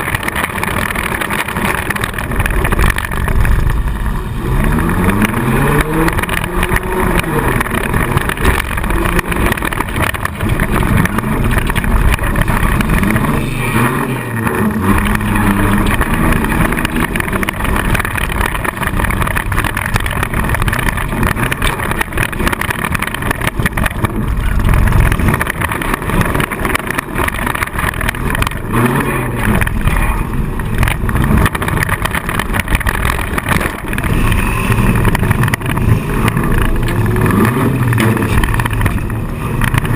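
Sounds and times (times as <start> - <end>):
car body rattling and knocking: 0.0 - 39.9
car engine revving: 0.0 - 39.9.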